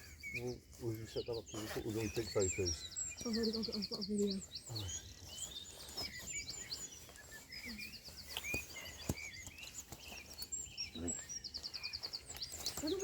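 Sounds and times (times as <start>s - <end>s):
bird trill: 0.0s - 13.0s
birds singing and chirping: 0.0s - 13.0s.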